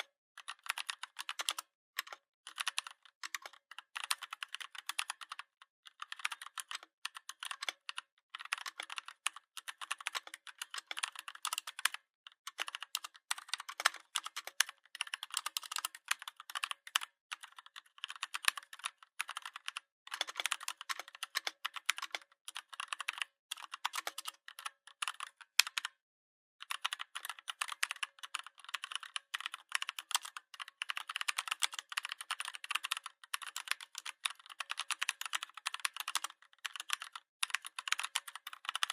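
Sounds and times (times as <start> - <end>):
mechanical keyboard typing: 0.0 - 26.0, 26.6 - 38.9.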